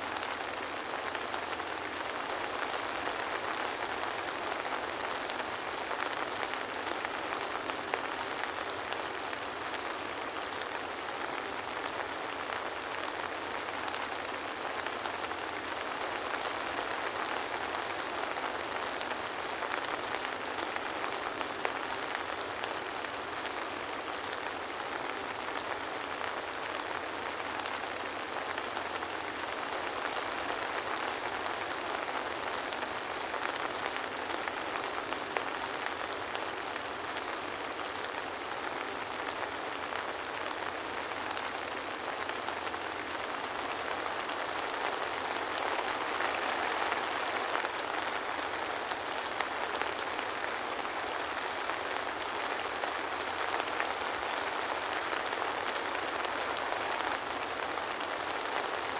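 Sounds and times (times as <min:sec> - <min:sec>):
soft rain pattering: 0:00.0 - 0:58.9.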